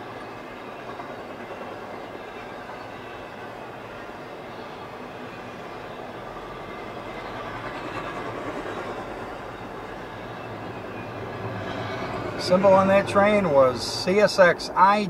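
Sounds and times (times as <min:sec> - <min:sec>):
train wheels on rails: 0:00.0 - 0:14.7.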